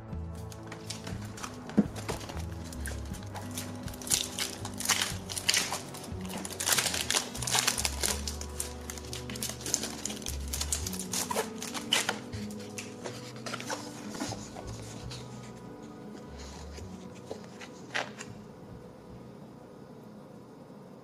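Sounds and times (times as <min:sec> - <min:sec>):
background music: 0:00.0 - 0:20.0
paper rustling: 0:00.4 - 0:18.4
plastic packaging crinkling: 0:00.4 - 0:18.4.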